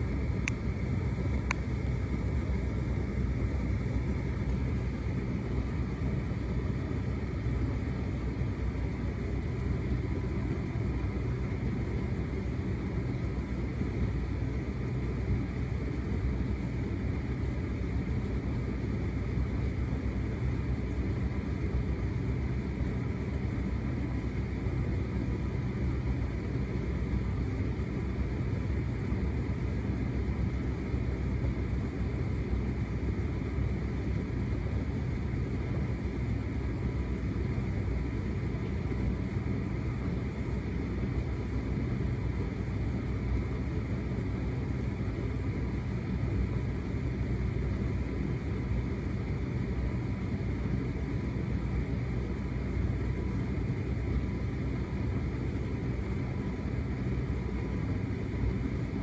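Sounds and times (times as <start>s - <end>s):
tumble dryer rumbling: 0.0s - 59.0s.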